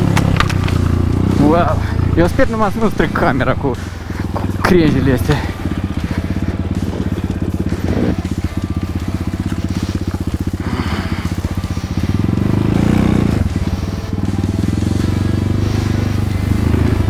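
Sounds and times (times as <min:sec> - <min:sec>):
dirt bike engine revving: 0:00.0 - 0:17.0
twigs crackling against bike: 0:00.0 - 0:17.0.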